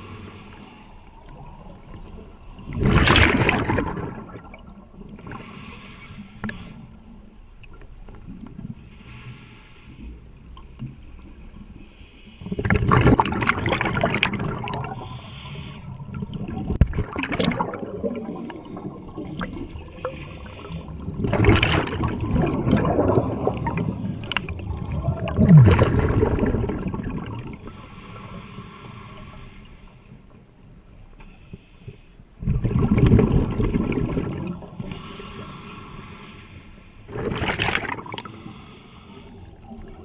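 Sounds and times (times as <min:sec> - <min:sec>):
underwater breath bubbles gurgling: 0:00.0 - 0:07.0, 0:11.7 - 0:29.8, 0:31.4 - 0:40.0.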